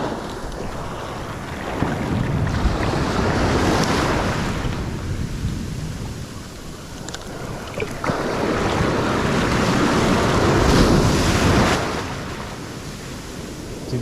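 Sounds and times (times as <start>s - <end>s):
ocean wave breaking: 0.0s - 14.0s
wind buffeting microphone: 0.0s - 14.0s.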